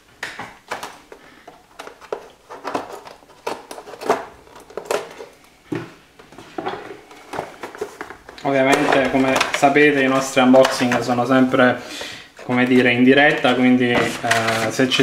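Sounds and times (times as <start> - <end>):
packaging crackling and rustling: 0.6 - 5.6, 6.2 - 15.0.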